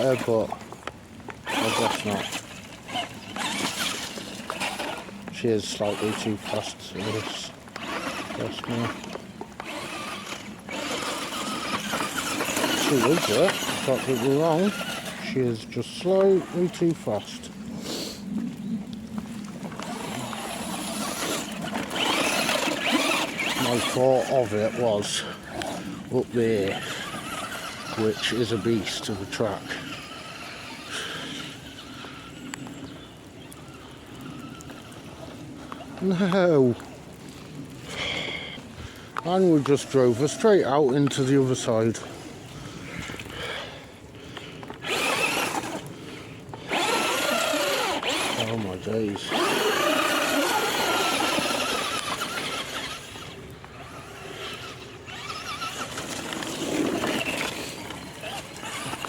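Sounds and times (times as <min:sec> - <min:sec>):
electric motor whine: 0:00.0 - 0:17.3, 0:19.2 - 0:36.4, 0:44.6 - 0:59.0.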